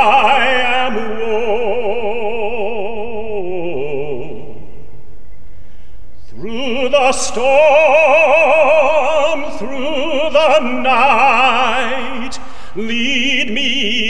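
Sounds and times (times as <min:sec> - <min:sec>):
man singing operatically: 0:00.0 - 0:04.7, 0:06.3 - 0:14.0.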